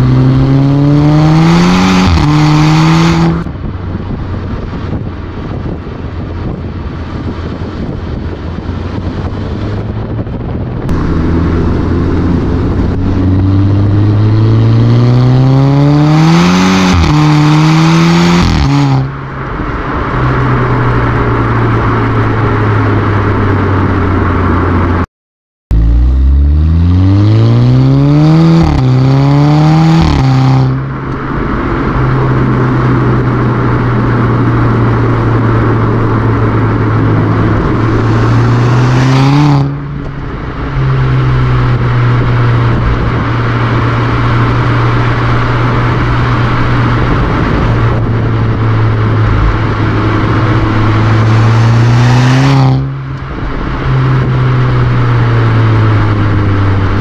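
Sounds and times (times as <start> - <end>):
car exhaust while driving: 0.0 - 25.0, 25.7 - 57.0.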